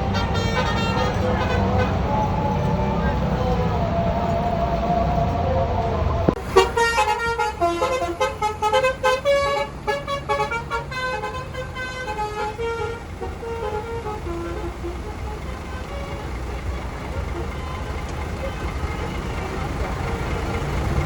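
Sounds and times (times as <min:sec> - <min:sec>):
bus musical horn tune: 0:00.0 - 0:05.1, 0:06.3 - 0:20.9.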